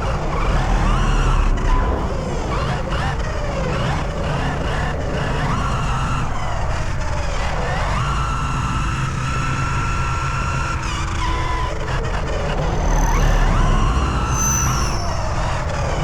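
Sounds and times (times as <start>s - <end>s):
electric rc car motors whining: 0.0s - 16.0s.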